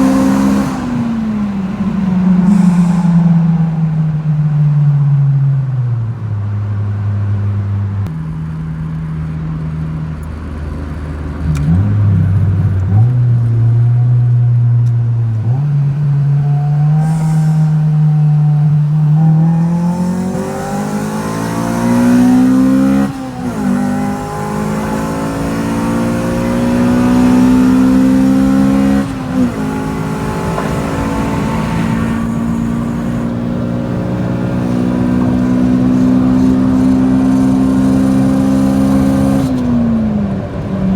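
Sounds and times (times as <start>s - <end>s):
car engine revving through gears: 0.0s - 4.5s, 8.2s - 40.9s.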